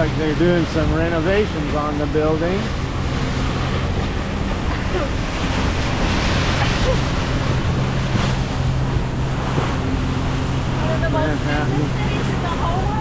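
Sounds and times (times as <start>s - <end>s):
boat engine humming: 0.0s - 13.0s
water rushing along hull: 0.0s - 13.0s
wind buffeting microphone: 0.0s - 13.0s.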